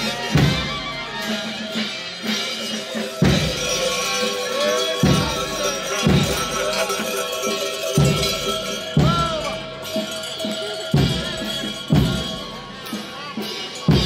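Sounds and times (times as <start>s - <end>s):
folk dance music: 0.0s - 14.0s
large drum strokes: 0.0s - 14.0s.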